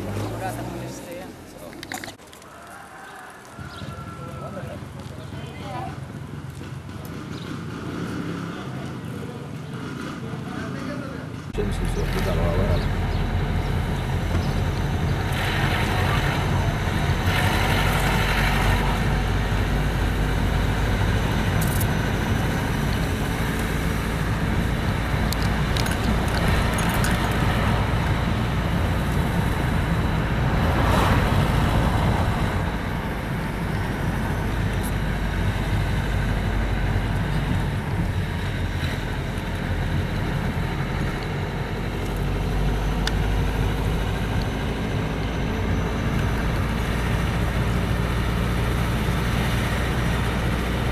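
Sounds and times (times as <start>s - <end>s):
engine and tyre rumble: 0.0s - 50.9s.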